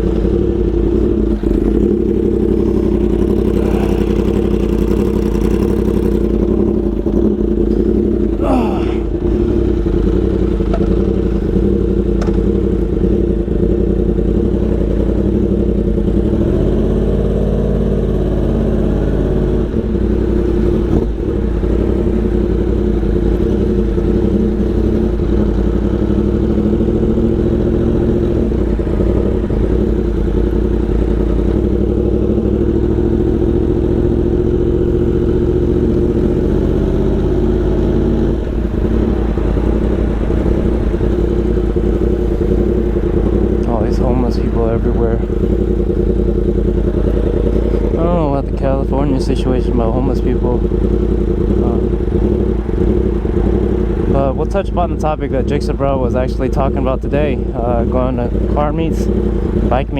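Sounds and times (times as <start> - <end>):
motorcycle engine cruising: 0.0 - 59.9
wind and road rumble: 0.0 - 59.9.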